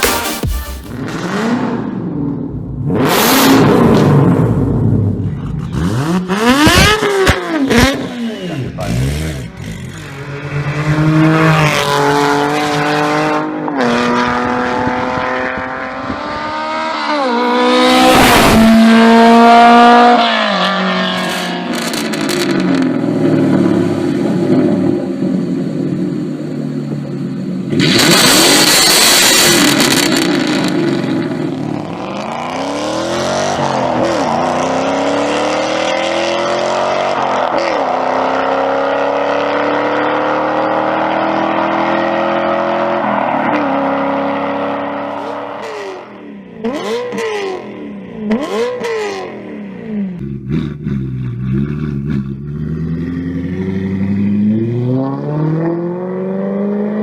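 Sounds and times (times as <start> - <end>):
car engine at full throttle: 0.0 - 57.0.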